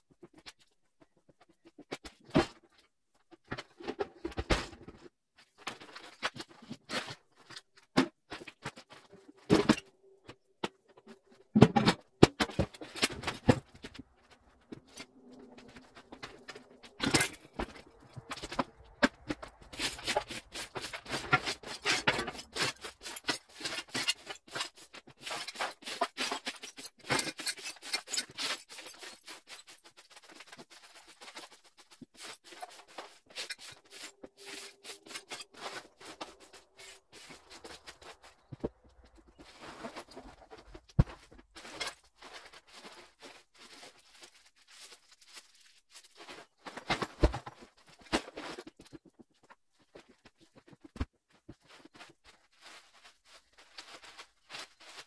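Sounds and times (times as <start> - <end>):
scraping and rustling of debris: 3.5 - 55.0.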